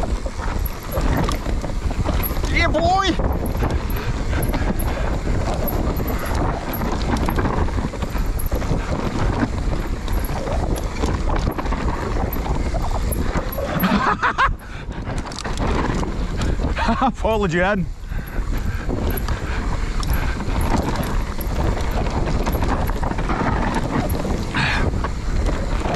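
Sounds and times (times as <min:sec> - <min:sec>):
bike tyres and frame rattling: 0:00.0 - 0:25.9
wind buffeting microphone: 0:00.0 - 0:25.9.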